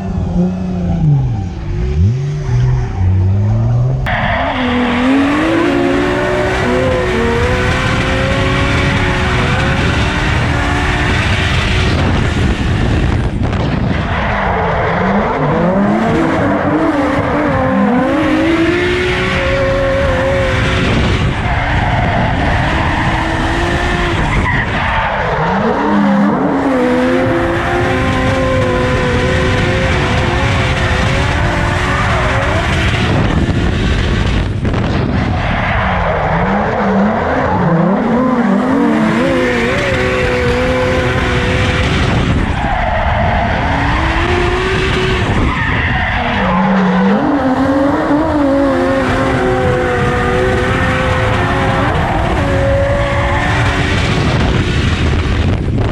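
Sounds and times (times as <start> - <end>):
car engine at high revs: 0.0 - 55.9.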